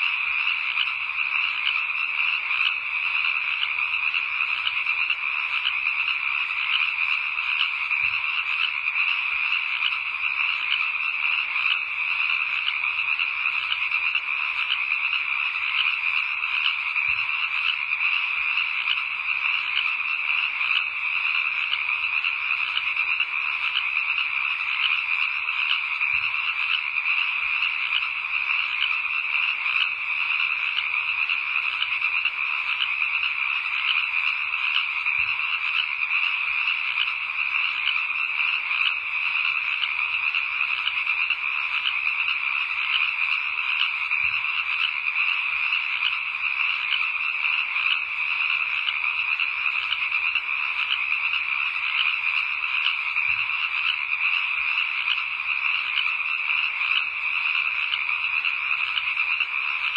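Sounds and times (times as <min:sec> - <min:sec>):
frogs calling: 0:00.0 - 0:59.9.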